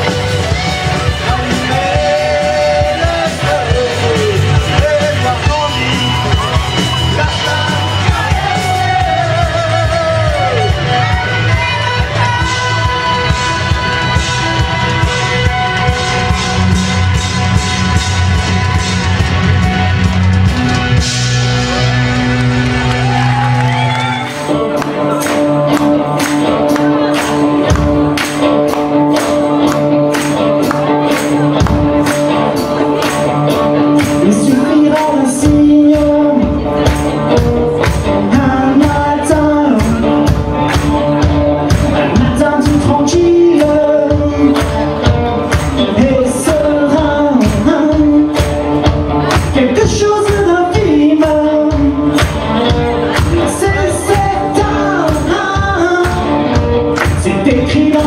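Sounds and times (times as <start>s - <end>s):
person singing: 0.0s - 19.7s, 21.6s - 58.0s
pop rock band playing: 0.0s - 58.0s
steady drum beat: 0.0s - 58.0s.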